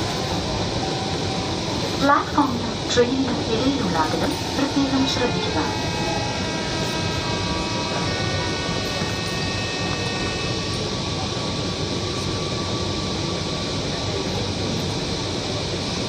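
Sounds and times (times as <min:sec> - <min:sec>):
high electric whine: 0:00.0 - 0:16.0
train cabin rumble and hiss: 0:00.0 - 0:16.0.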